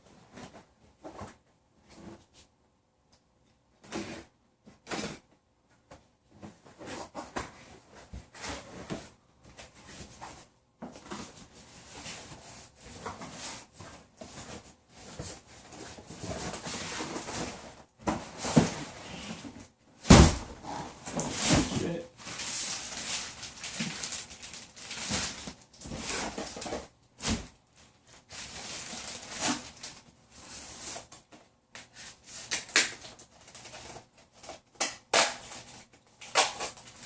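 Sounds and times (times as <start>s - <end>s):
packaging rustling and scraping: 6.4s - 37.0s.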